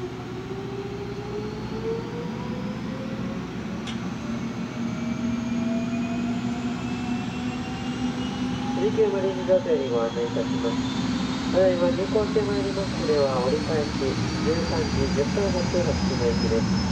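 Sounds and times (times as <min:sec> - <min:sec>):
gas turbines whining: 0:00.0 - 0:16.9
low hum: 0:00.0 - 0:16.9.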